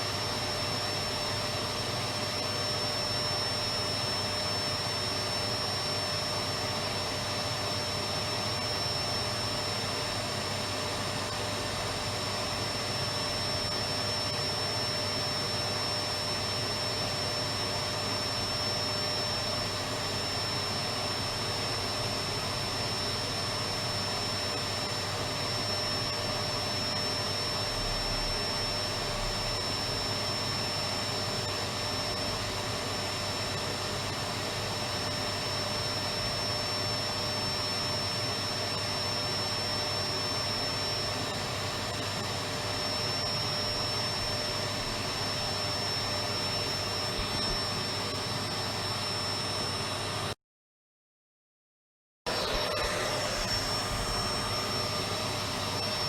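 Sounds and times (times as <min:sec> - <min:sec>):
vacuum cleaner running: 0:00.0 - 0:50.4, 0:52.3 - 0:56.0.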